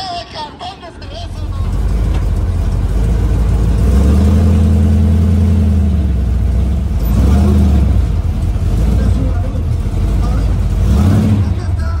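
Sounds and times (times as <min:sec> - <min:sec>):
drag racing engine running: 0:01.1 - 0:12.0.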